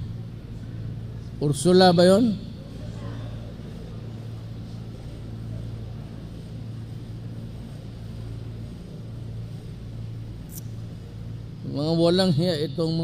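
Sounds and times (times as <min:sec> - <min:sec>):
faint background noise: 0:00.0 - 0:13.0
steady low hum: 0:00.0 - 0:13.0.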